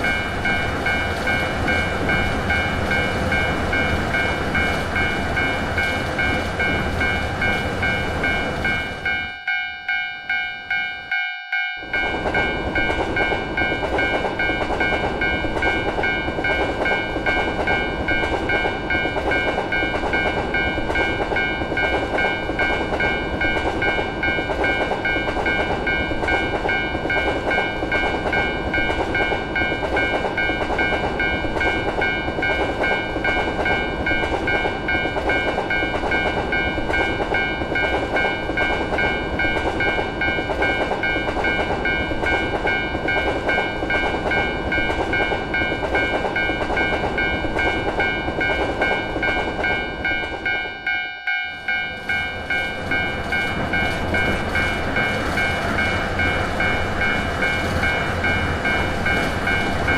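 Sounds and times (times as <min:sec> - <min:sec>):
railroad crossing alarm ringing: 0:00.0 - 0:59.9
train passing on rails: 0:00.0 - 0:59.9.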